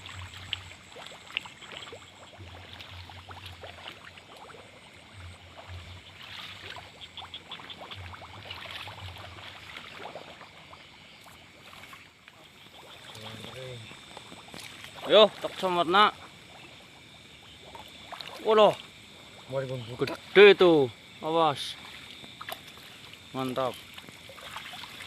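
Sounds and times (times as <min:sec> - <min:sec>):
insect trill: 0:00.0 - 0:25.0
water sloshing and trickling: 0:00.0 - 0:25.0.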